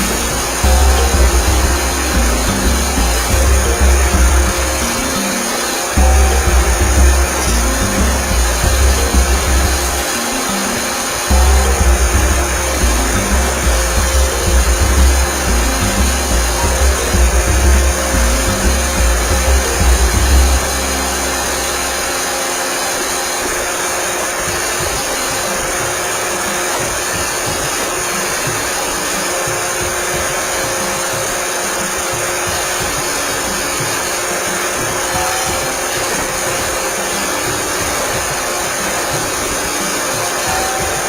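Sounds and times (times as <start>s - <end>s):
robot vacuum whirring: 0.0s - 41.0s.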